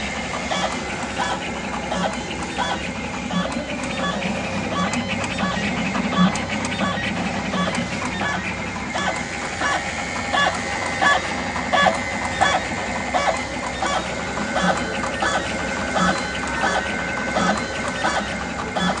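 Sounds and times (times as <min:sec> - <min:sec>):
machine motor whine: 0:00.0 - 0:19.0.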